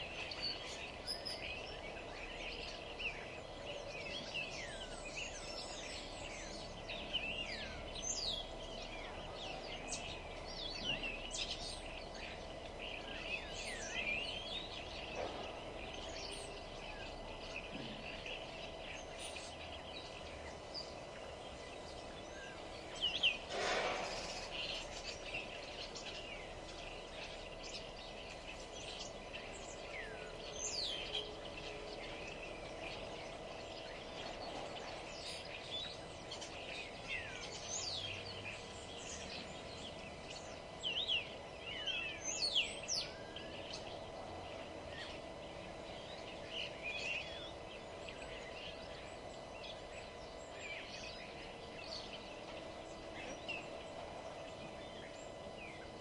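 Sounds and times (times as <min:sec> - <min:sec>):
low background hum: 0:00.0 - 0:56.0
songbirds chirping and singing: 0:00.0 - 0:56.0.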